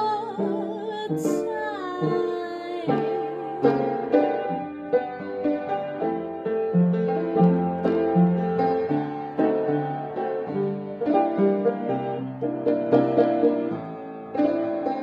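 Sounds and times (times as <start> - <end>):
slow piano chords with bass line: 2.1 - 15.0.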